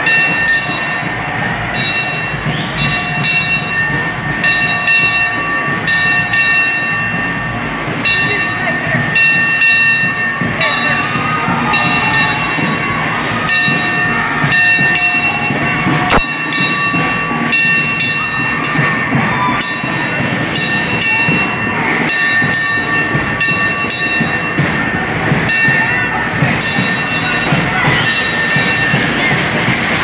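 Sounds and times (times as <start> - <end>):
crowd noise: 0.0 - 30.0
festive band music: 0.0 - 30.0.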